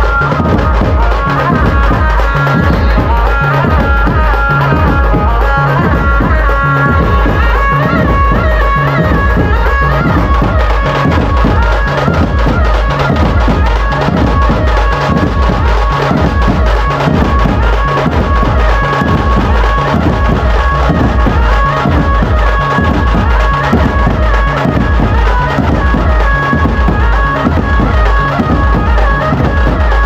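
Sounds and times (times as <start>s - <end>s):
hand drum percussion: 0.0s - 30.0s
heavy bass drum beat: 0.0s - 30.0s
held melody line: 0.0s - 30.0s.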